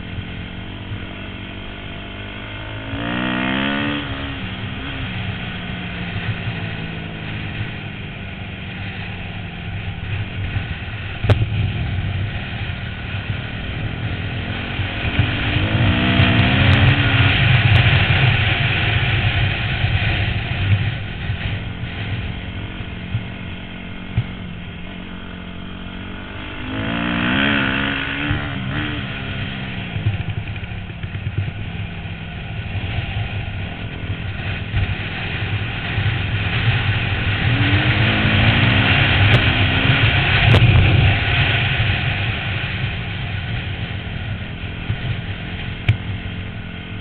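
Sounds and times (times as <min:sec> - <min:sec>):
dirt bike engine revving: 0:00.0 - 0:07.9, 0:11.5 - 0:47.0.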